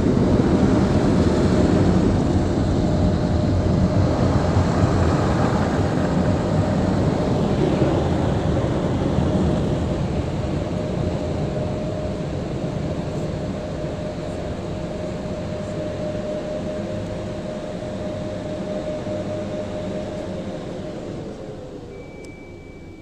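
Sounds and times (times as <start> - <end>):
car wash blow dryers rushing air: 0.0 - 23.0
faint steady hum: 0.0 - 23.0.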